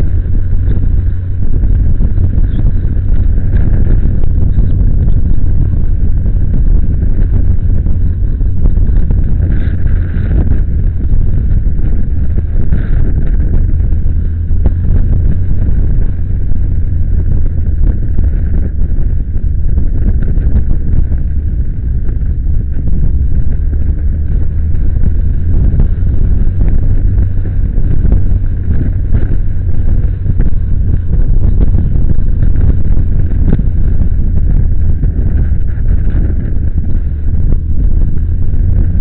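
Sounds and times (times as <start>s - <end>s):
motorcycle engine running: 0.0s - 39.0s
wind rushing over microphone: 0.0s - 39.0s.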